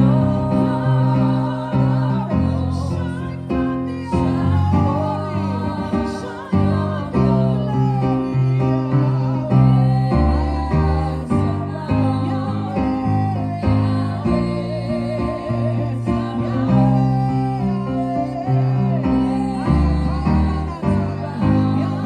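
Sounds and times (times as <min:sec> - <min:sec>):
gospel singing over a band: 0:00.0 - 0:22.0
prominent bass line: 0:00.0 - 0:22.0.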